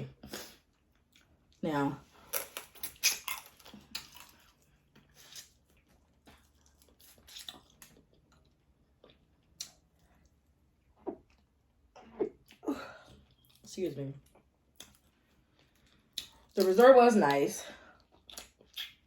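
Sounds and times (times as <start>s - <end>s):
person chewing food: 0.3s - 1.6s, 2.2s - 16.6s, 17.9s - 19.0s.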